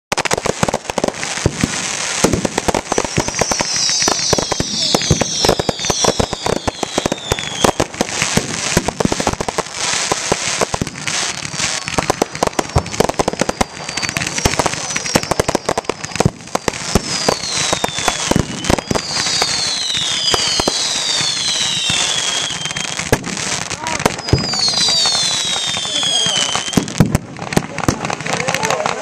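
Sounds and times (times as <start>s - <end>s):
fireworks whistles falling in pitch: 0.1s - 27.2s
fireworks bangs and crackles: 0.1s - 29.0s.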